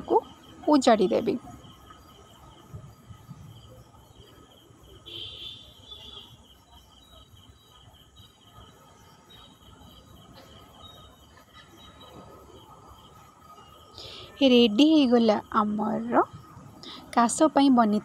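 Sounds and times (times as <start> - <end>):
insect chirping: 0.0 - 18.0.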